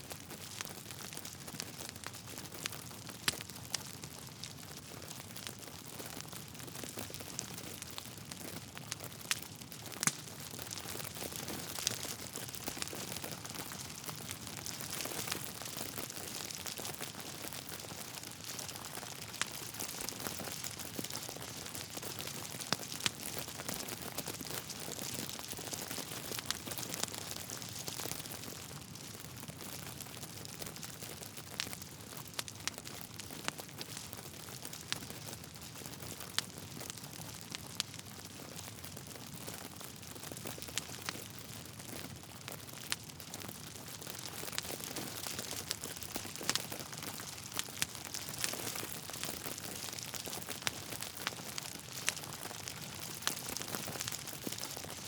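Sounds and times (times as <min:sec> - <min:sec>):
wood fire crackling: 0:00.1 - 0:55.0.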